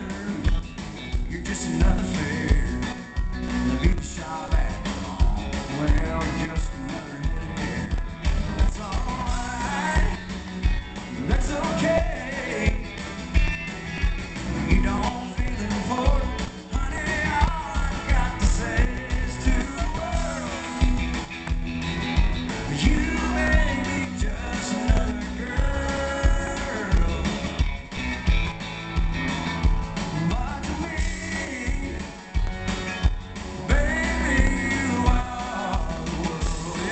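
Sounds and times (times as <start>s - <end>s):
man singing: 0.0s - 13.4s, 14.4s - 21.3s, 22.6s - 28.0s, 30.1s - 36.9s
bass: 0.0s - 36.9s
drums: 0.0s - 36.9s
electric guitar: 0.0s - 36.9s
keyboards: 0.0s - 36.9s.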